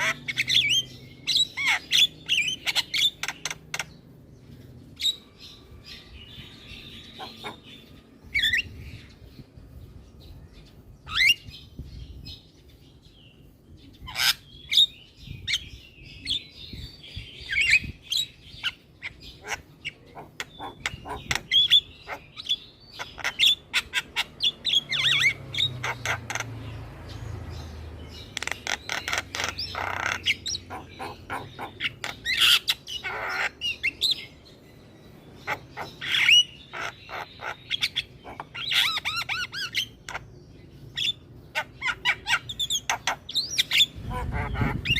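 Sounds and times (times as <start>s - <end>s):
myna bird singing: 0.0s - 44.9s.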